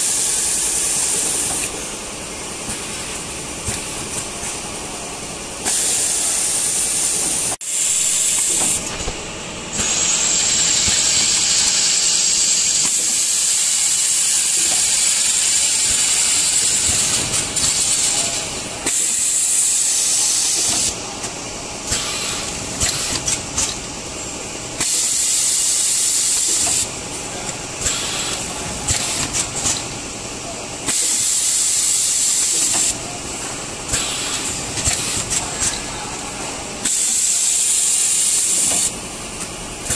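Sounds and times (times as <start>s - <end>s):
machine running noise: 0.0s - 39.9s
packing machine hissing: 0.0s - 39.9s.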